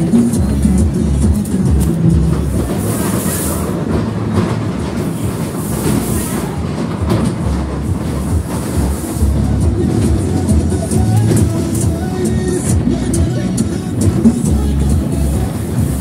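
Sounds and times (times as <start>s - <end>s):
ride cars rumbling on rails: 0.0s - 16.0s.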